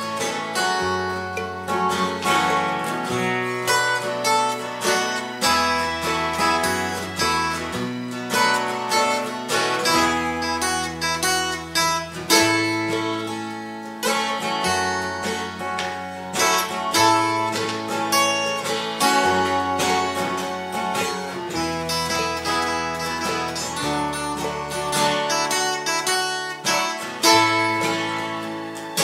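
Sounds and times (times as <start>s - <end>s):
acoustic guitars strumming: 0.0s - 29.0s.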